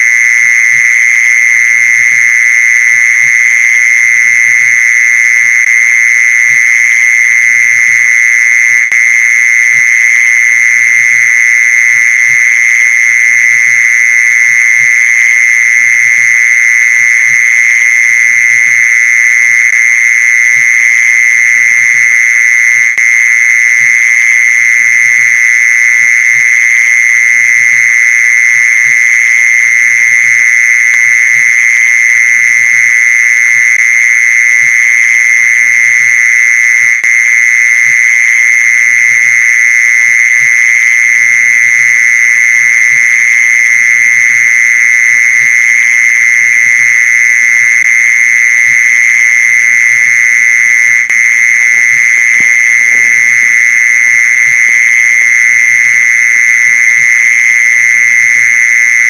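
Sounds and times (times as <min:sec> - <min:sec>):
mole cricket trill: 0:00.0 - 0:59.0.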